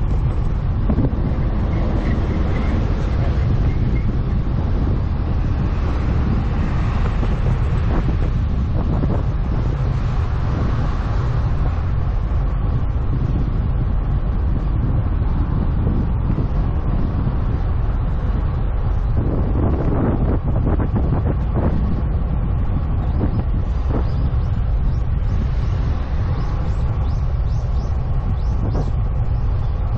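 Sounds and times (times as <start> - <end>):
wind roar on microphone: 0.0 - 29.9.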